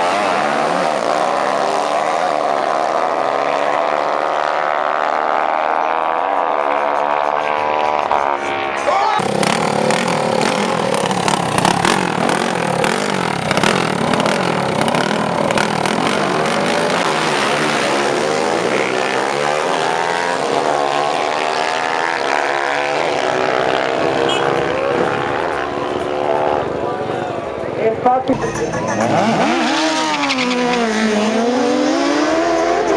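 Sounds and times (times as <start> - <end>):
motorcycle engines revving: 0.0 - 32.9.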